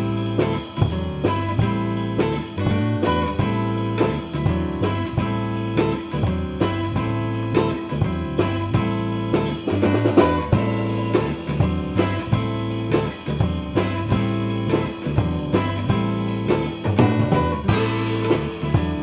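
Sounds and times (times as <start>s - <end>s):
drum kit beat: 0.0s - 19.0s
plucked guitar: 0.0s - 19.0s.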